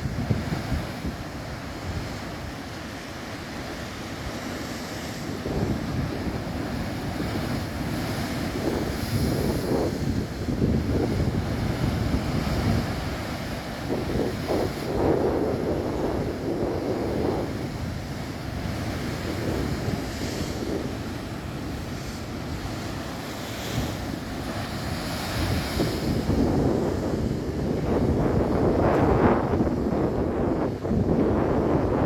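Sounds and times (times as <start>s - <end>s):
wind on microphone: 0.0s - 32.0s.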